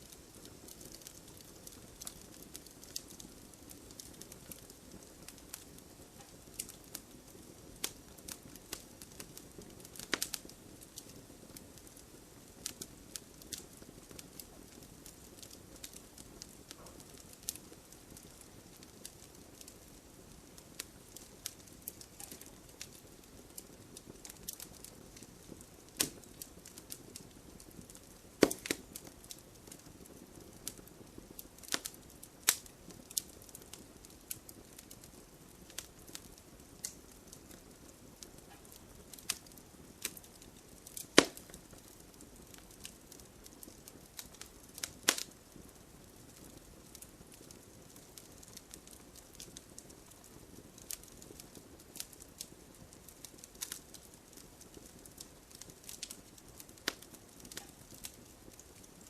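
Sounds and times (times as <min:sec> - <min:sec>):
logs crackling and popping: 0:00.0 - 0:59.0
soft rush of flame: 0:00.0 - 0:59.0.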